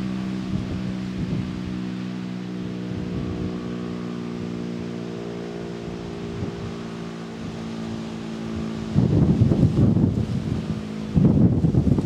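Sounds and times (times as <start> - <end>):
warning siren steady low tone: 0.0 - 12.0.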